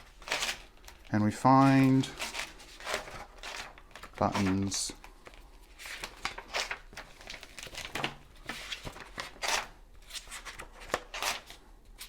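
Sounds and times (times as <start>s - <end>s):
paper pages turning: 0.0s - 12.0s.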